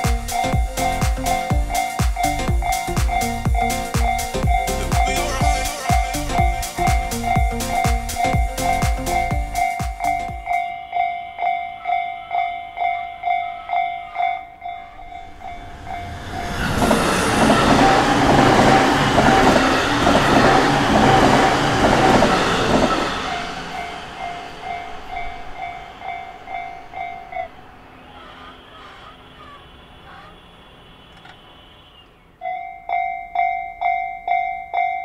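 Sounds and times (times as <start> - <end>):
level-crossing warning bell: 0.0 - 28.0, 29.8 - 35.0
electric train passing: 0.0 - 34.4.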